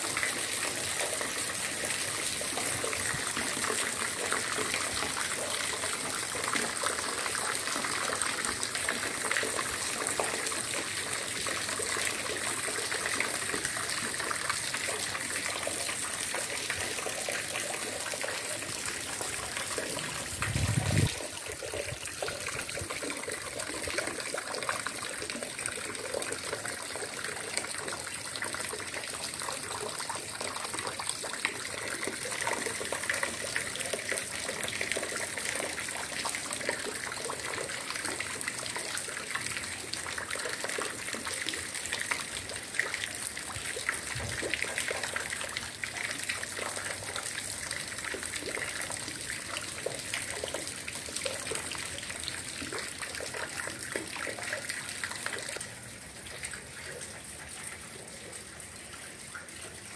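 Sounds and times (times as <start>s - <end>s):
trickling water: 0.0s - 59.9s.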